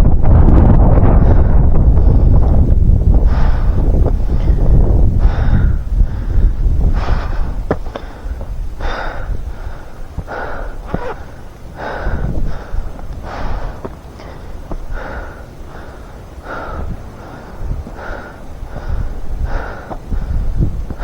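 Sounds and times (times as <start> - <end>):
wind buffeting microphone: 0.0 - 21.0
person breathing heavily: 1.0 - 21.0.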